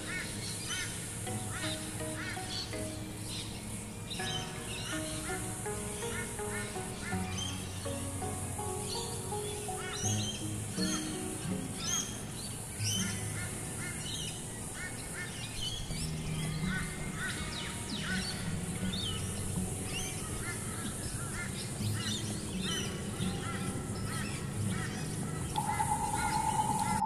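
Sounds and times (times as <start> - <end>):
birds harsh cackling calls: 0.0 - 19.2, 19.8 - 27.0
faint background music: 0.0 - 27.0.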